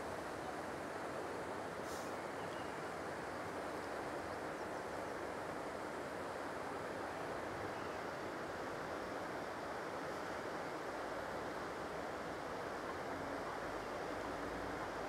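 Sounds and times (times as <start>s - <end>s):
water rushing over a weir: 0.0s - 15.0s.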